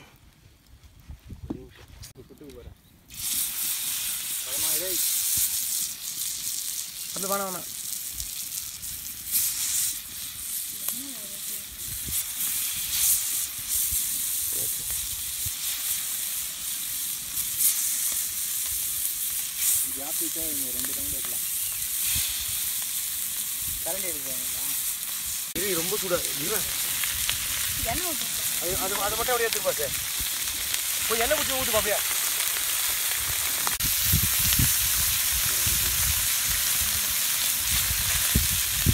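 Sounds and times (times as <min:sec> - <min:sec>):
fish sizzling in oil: 0:03.1 - 0:38.9.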